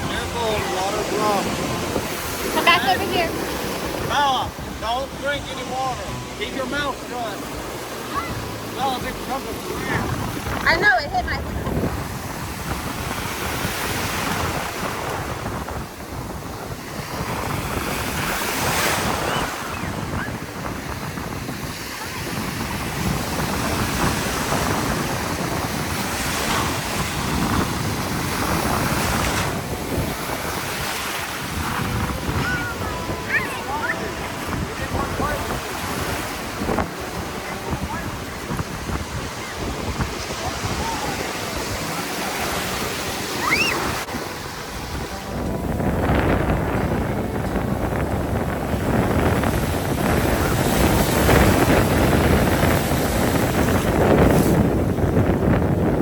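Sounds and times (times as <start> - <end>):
ocean surf breaking: 0.0 - 56.0
wind rumbling on microphone: 0.0 - 56.0.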